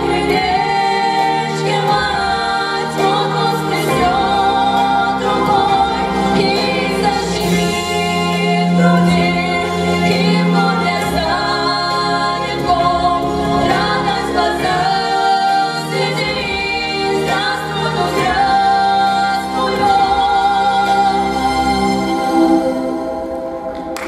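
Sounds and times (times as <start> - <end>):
two women singing a duet: 0.0 - 23.1.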